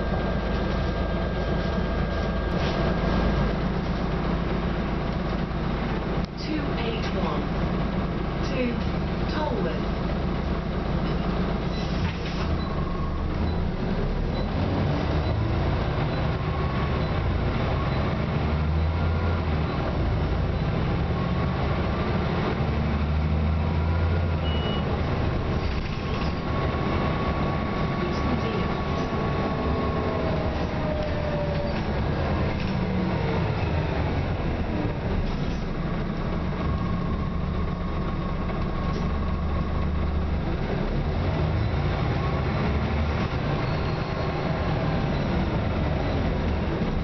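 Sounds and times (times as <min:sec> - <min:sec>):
bus engine running: 0:00.0 - 0:47.0.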